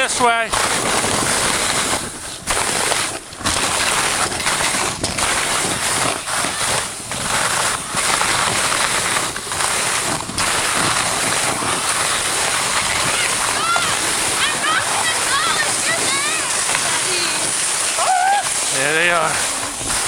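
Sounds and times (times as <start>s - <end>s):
sled scraping over snow: 0.0s - 20.0s
wind on microphone: 0.0s - 20.0s.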